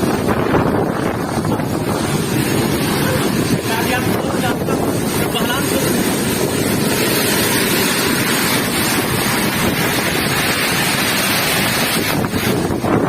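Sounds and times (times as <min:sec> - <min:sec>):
heavy rain pouring: 0:00.0 - 0:13.0
wind buffeting microphone: 0:00.0 - 0:13.0.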